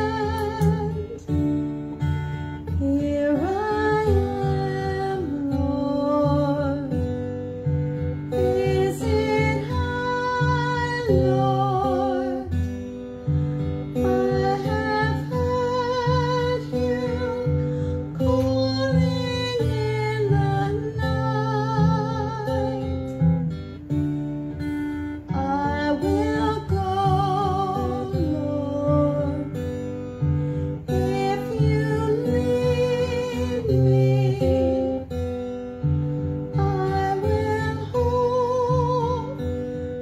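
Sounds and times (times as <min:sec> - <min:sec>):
person singing with vibrato: 0:00.0 - 0:01.6, 0:02.5 - 0:07.4, 0:08.0 - 0:12.8, 0:13.6 - 0:23.4, 0:25.2 - 0:30.0, 0:30.6 - 0:35.4, 0:36.2 - 0:40.0
acoustic guitar: 0:00.0 - 0:40.0.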